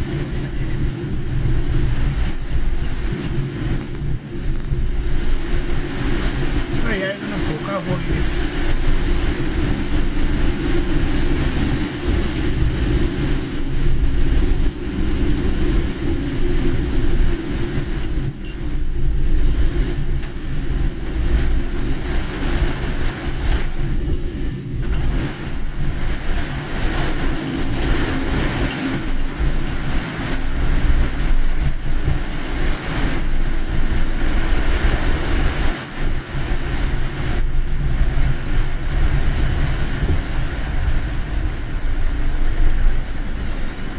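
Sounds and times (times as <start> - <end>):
car engine and tyres rumbling: 0.0 - 43.9
rain hissing and spray: 0.0 - 43.9.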